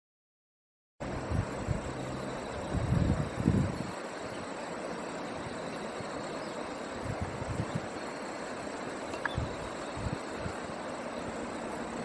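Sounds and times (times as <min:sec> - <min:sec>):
steady outdoor hiss: 0:01.0 - 0:12.0.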